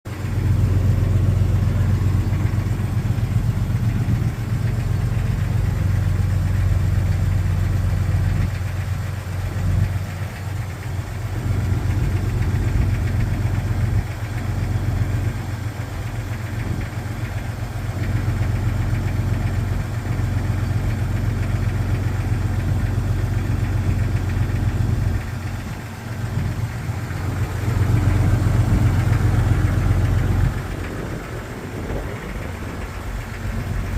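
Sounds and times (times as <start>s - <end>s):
engine idling with piston slap: 0.0s - 33.9s.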